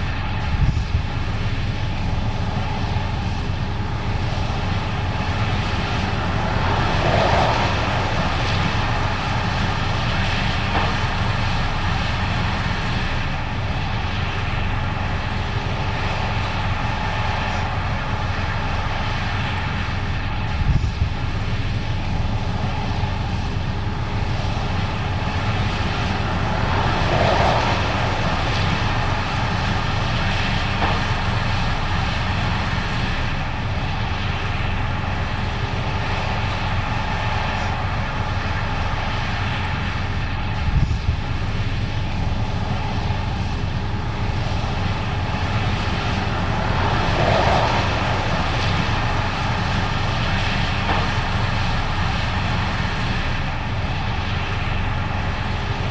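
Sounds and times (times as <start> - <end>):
combine harvester engine drone: 0.0 - 55.9.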